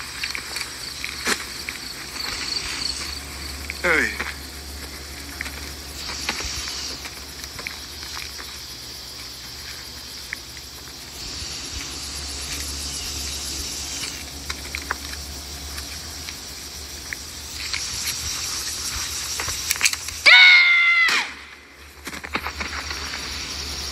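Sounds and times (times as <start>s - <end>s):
low steady hum: 0.0s - 20.3s
insects hissing chorus: 0.0s - 23.9s.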